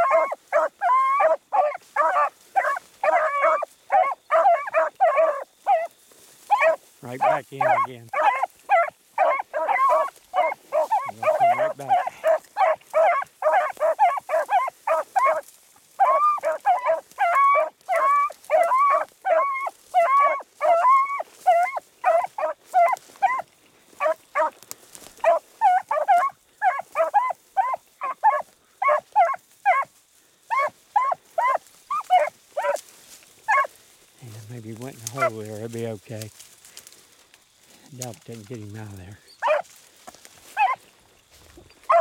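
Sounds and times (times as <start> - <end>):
hounds baying: 0.0 - 42.0.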